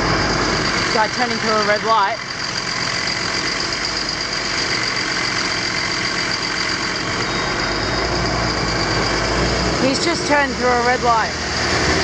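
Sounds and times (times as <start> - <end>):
traffic engines idling: 0.0 - 12.0.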